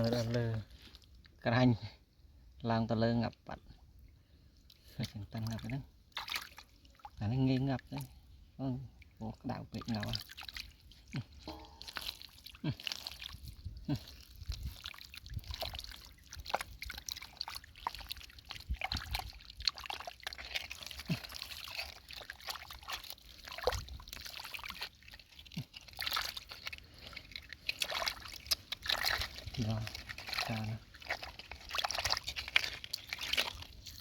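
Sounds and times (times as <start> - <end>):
hands digging through wet mud: 0.0 - 1.2, 4.8 - 6.7, 9.4 - 34.0
water splashing and sloshing: 0.0 - 1.4, 3.4 - 34.0.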